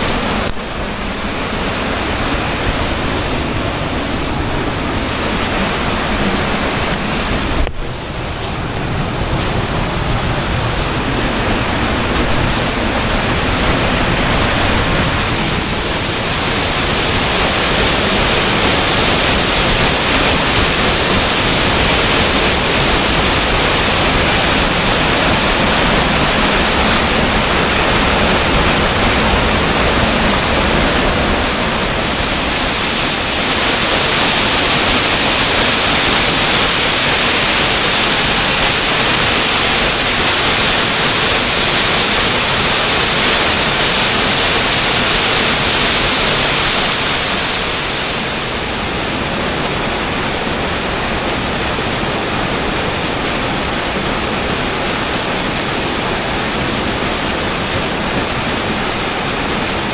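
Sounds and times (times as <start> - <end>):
waterfall rushing over rocks: 0.0 - 59.9.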